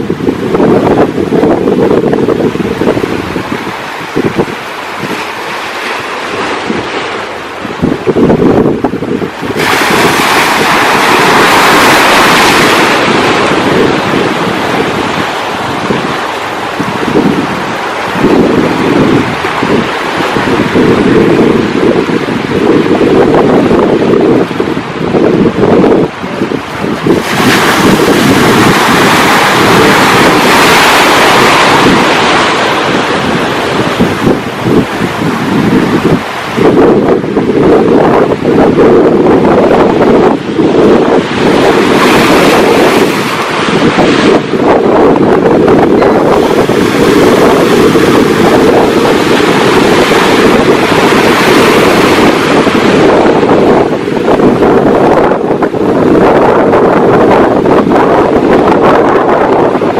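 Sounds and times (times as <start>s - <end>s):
waves breaking and washing in: 0.0s - 59.9s
wind buffeting microphone: 0.0s - 59.9s.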